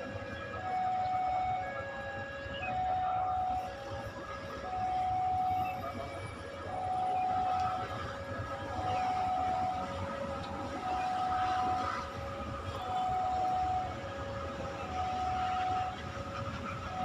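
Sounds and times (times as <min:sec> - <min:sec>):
level crossing two-tone alarm: 0:00.4 - 0:12.2, 0:14.8 - 0:17.0.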